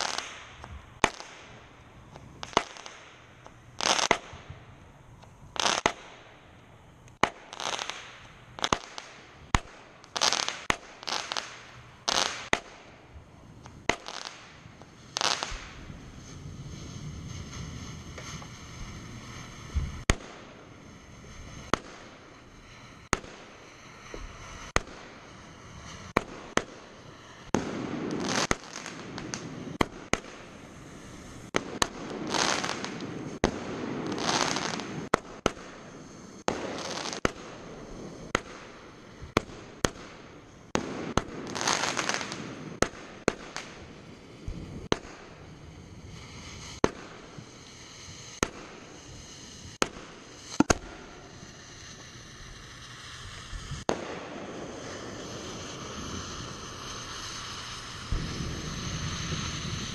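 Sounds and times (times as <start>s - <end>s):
firework shells bursting: 0.0s - 16.4s, 17.4s - 59.9s
fireworks hissing: 0.0s - 59.9s.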